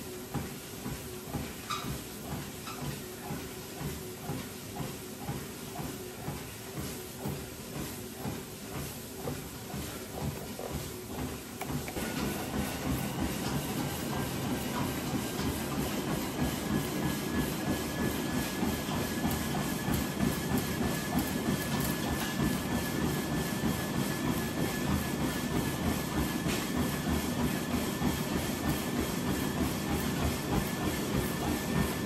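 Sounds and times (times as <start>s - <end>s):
footfalls on treadmill belt: 0.0s - 32.0s
treadmill belt hiss: 0.0s - 32.0s.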